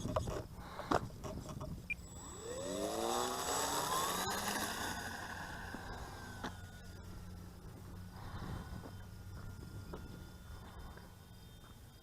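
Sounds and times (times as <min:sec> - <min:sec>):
model plane motor whining: 0:02.0 - 0:11.8.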